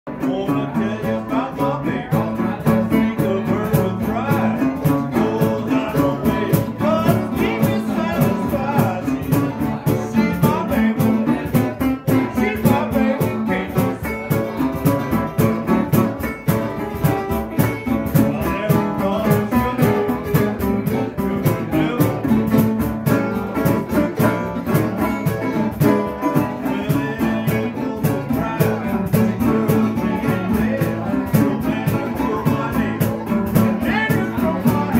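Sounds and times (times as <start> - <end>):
cajon beat: 0.1 - 34.9
mandolin picking: 0.1 - 34.9
resonator guitar picking: 0.1 - 34.9.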